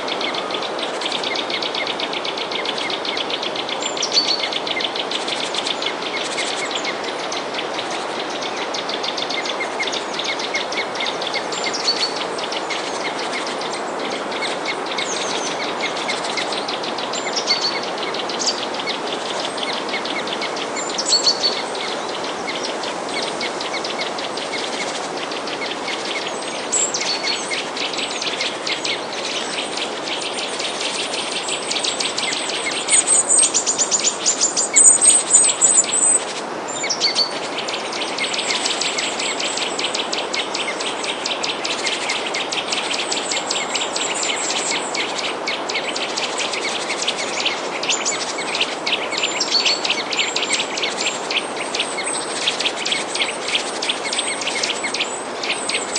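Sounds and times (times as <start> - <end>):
songbirds chirping and trilling: 0.0 - 55.9
steady background hiss: 0.0 - 55.9.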